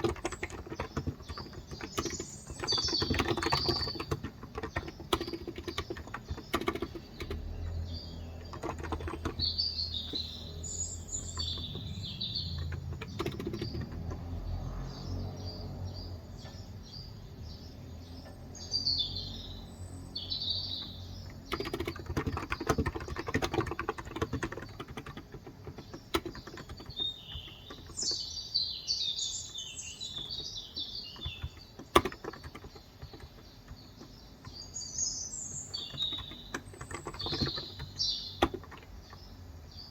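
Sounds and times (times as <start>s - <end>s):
typing on a keyboard: 0.0s - 14.6s, 20.6s - 28.4s, 29.5s - 39.4s
birds chirping: 0.0s - 39.9s.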